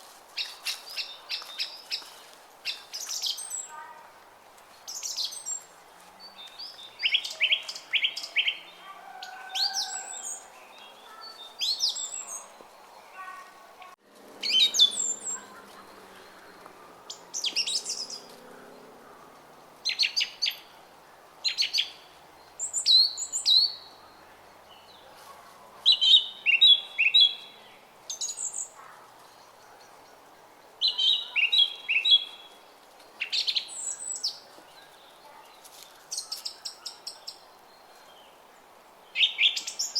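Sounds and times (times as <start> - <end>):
songbirds chirping: 0.0 - 39.9
faint murmur of a brook: 0.2 - 39.9.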